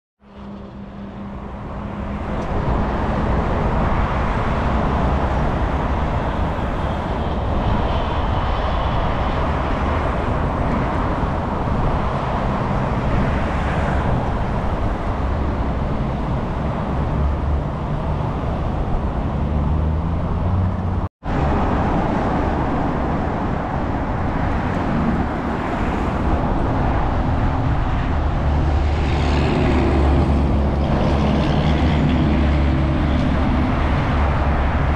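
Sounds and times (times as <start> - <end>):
motorway traffic: 0.2 - 34.9.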